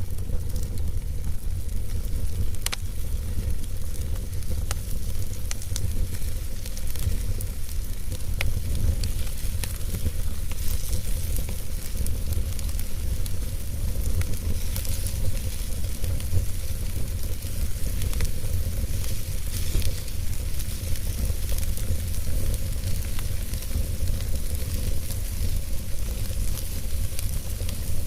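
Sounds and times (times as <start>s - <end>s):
fire crackling and popping: 0.0s - 28.0s
fire flames rumbling: 0.0s - 28.0s.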